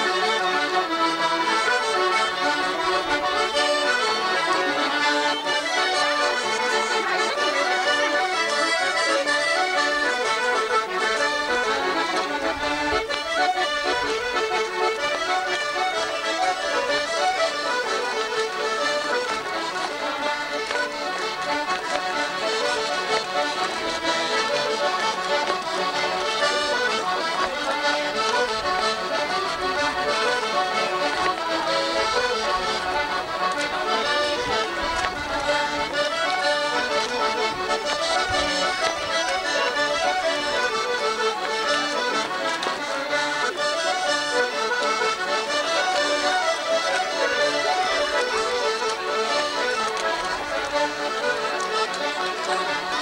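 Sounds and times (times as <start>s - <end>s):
accordion band playing: 0.0s - 53.0s.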